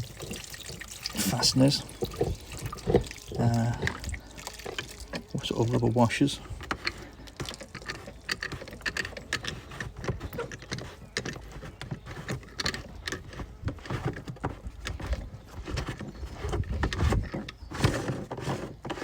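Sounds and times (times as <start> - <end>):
pipe fittings clicking and knocking: 0.0 - 18.0.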